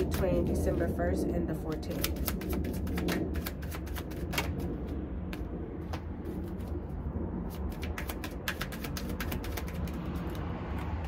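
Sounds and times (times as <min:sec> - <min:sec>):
cards being shuffled: 0:00.0 - 0:01.0, 0:01.6 - 0:06.9, 0:07.5 - 0:11.0
low background rumble: 0:00.0 - 0:11.0.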